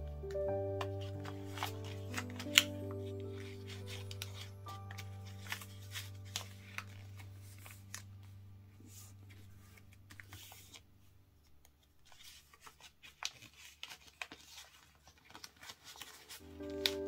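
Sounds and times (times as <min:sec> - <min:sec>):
faint background music: 0:00.0 - 0:12.6, 0:15.3 - 0:17.0
paper rustling being folded: 0:00.0 - 0:17.0.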